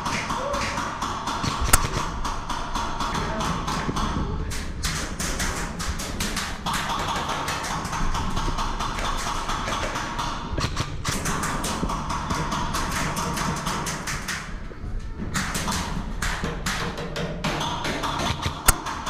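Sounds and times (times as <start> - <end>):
music with tapping percussion: 0.0 - 19.0.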